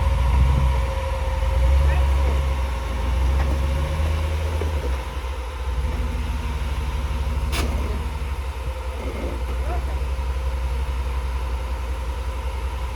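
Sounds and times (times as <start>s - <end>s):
engine running at low revs: 0.0s - 12.9s.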